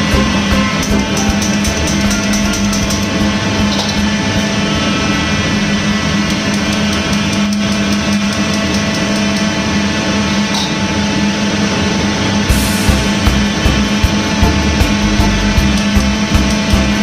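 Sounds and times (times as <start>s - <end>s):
constant low hum: 0.0s - 17.0s
wok burner roaring: 0.0s - 17.0s.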